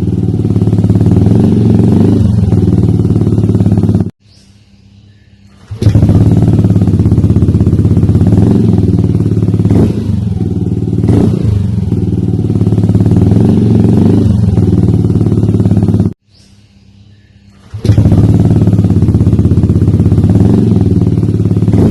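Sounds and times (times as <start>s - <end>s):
scooter engine running loud: 0.0s - 4.1s, 5.6s - 16.2s, 17.6s - 21.9s.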